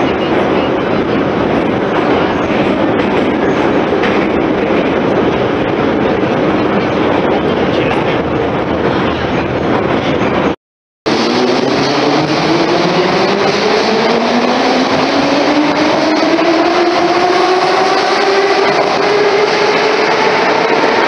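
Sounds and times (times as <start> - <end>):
metro train running noise: 0.0 - 21.0.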